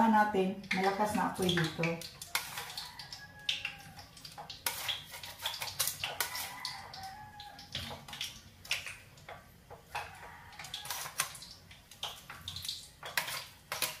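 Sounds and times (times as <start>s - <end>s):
hot oil crackling in a wok: 0.0s - 14.0s.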